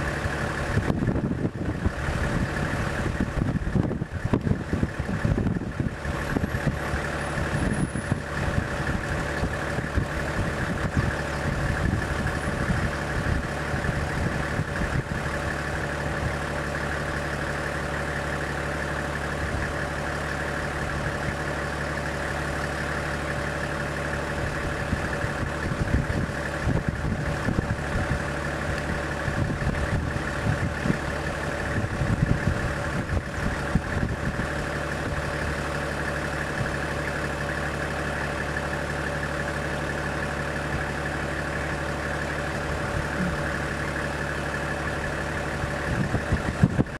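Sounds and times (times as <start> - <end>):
vehicle engine idling: 0.0 - 46.9.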